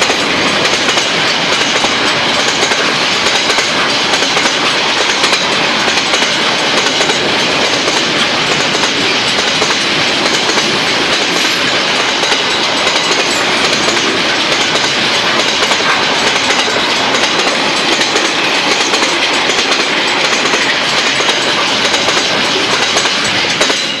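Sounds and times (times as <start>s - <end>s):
freight train wheels on track: 0.0s - 24.0s.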